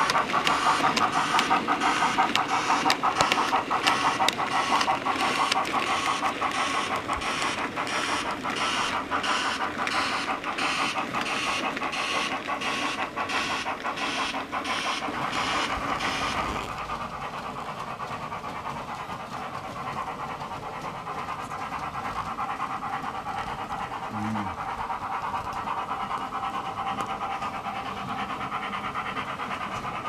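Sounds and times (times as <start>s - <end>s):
locomotive running sound from speaker: 0.0s - 30.0s
model train wheels clicking: 0.0s - 30.0s.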